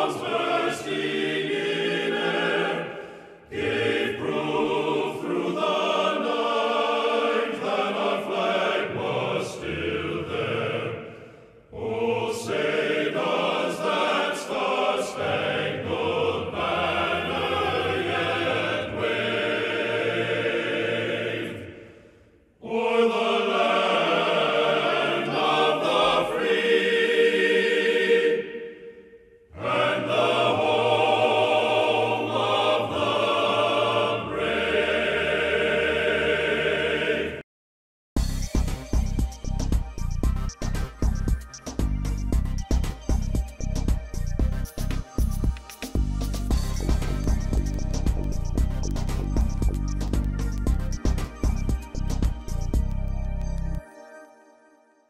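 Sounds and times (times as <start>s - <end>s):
choir singing: 0.0s - 37.4s, 45.7s - 54.0s.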